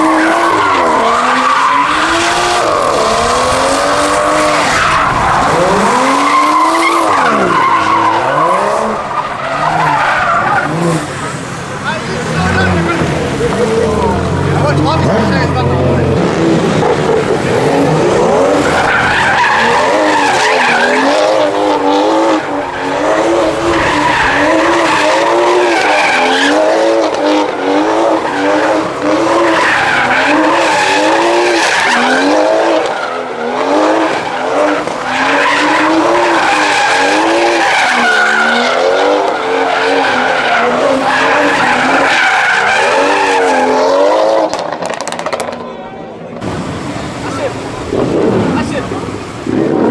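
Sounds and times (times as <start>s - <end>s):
car engine revving: 0.0s - 45.7s, 46.3s - 49.9s
tyres skidding and squealing: 0.0s - 49.9s.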